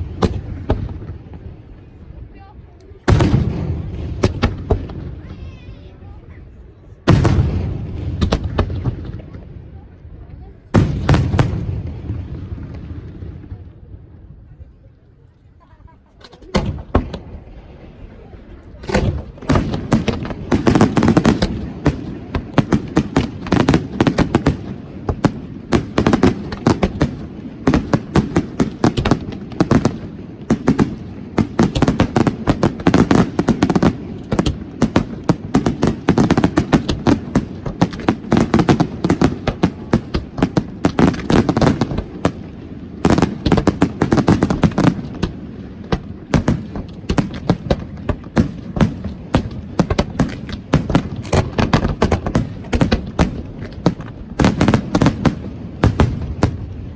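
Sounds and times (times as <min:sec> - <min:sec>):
fireworks bangs and crackles: 0:00.0 - 0:14.8, 0:15.7 - 0:56.9.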